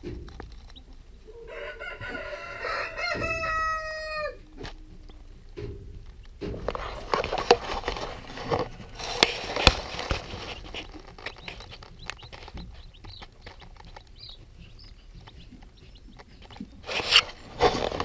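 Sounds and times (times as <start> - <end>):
chicks pecking and scratching: 0.0 - 18.0
chicks peeping: 0.0 - 18.0.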